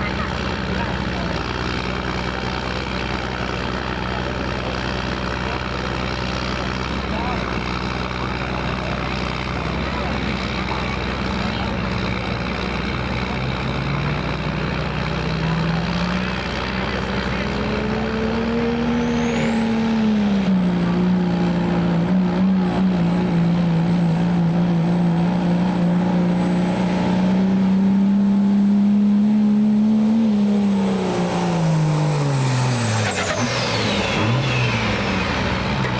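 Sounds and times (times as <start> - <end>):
diesel truck engine running: 0.0 - 35.9.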